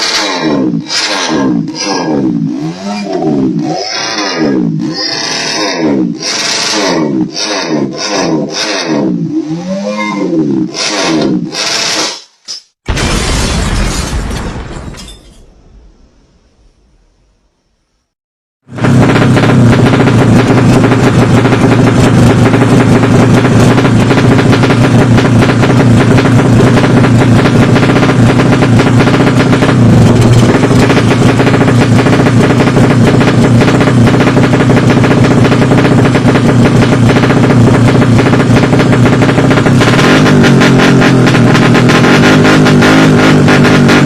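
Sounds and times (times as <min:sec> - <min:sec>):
motorcycle engine at high revs: 0:00.0 - 0:12.3, 0:18.6 - 0:44.0.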